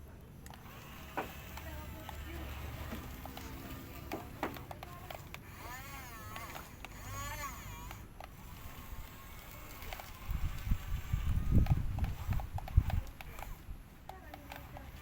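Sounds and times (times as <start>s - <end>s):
sharp clicks: 0.4s - 15.0s.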